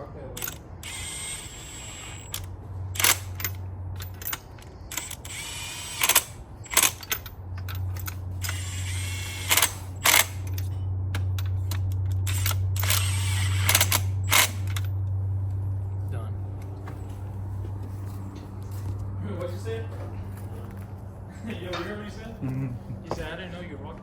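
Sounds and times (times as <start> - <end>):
steady low hum: 0.0 - 24.0
hand tools clicking and clanking: 0.3 - 15.8, 16.4 - 23.3.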